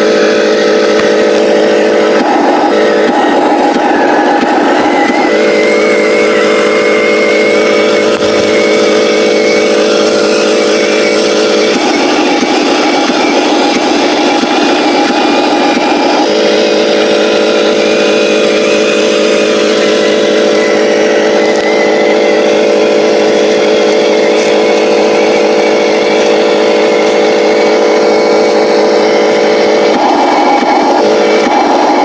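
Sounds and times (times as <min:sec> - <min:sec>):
heavy truck engine droning: 0:00.0 - 0:32.0.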